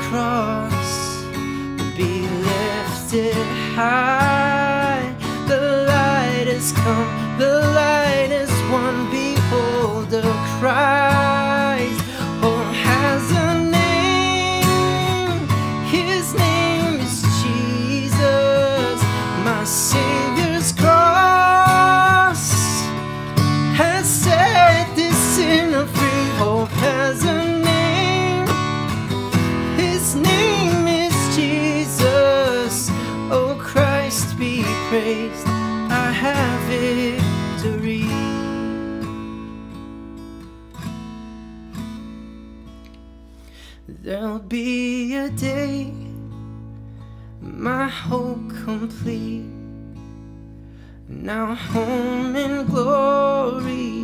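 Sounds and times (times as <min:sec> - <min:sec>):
acoustic guitar chords: 0:00.0 - 0:54.0.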